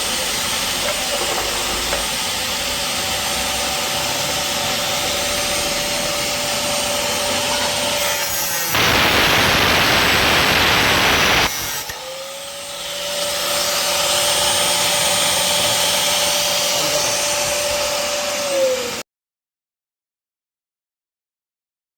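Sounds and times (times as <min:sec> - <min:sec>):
angle grinder cutting and whining: 0:00.0 - 0:19.0.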